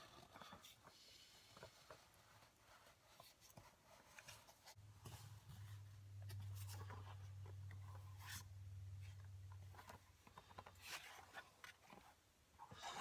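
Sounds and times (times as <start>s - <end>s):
low steady hum: 1.6s - 12.6s.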